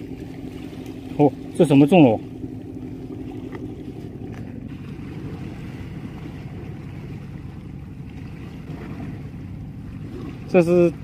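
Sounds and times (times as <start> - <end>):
sea water on rocks: 0.0 - 11.0
wind: 0.0 - 11.0.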